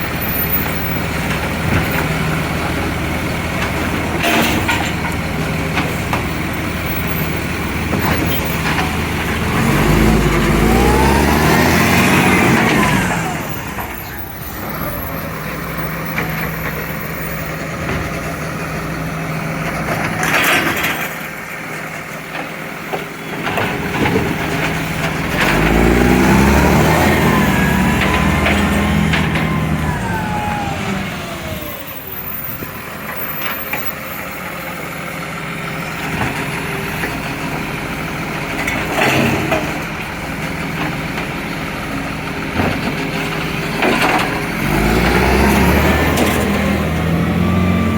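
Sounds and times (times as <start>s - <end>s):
diesel engine idling and revving: 0.0s - 47.9s.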